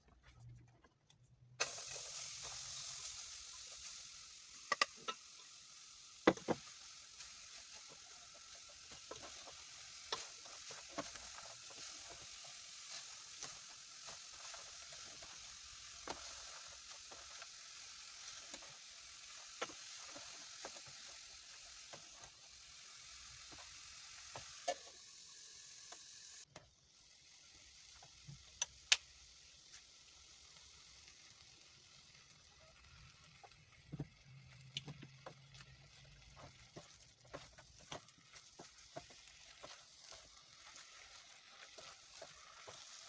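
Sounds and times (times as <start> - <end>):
onions sizzling in a pot: 1.6 - 43.0.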